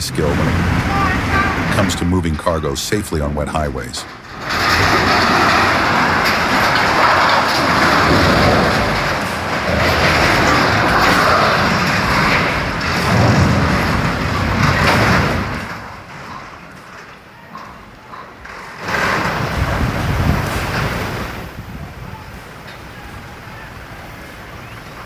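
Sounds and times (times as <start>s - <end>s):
heavy vehicle rumbling with hiss: 0.0s - 3.2s, 3.9s - 25.0s.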